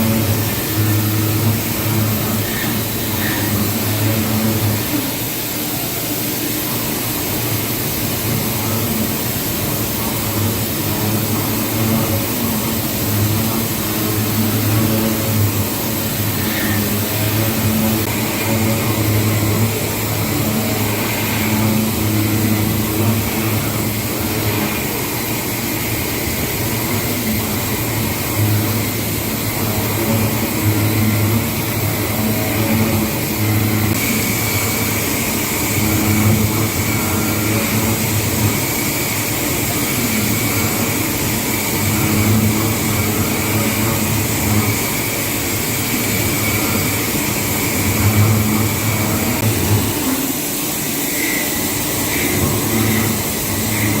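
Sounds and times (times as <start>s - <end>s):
cnc machine hum: 0.0s - 54.0s
high machine whine: 0.0s - 54.0s.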